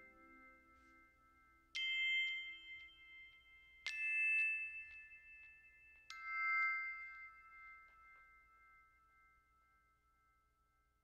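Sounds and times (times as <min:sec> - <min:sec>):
bell-like mallet notes: 0:00.0 - 0:10.2.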